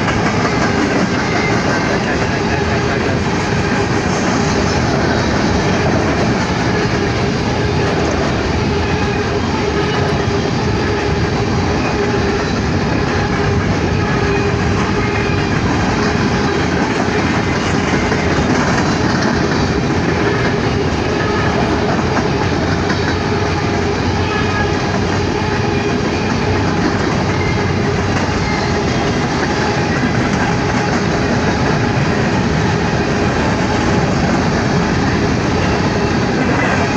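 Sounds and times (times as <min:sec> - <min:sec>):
steel train wheels on rail: 0:00.0 - 0:36.9.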